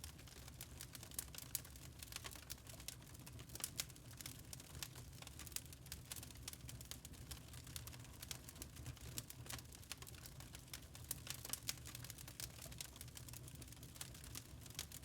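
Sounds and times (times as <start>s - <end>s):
log fire crackling: 0.0s - 15.0s.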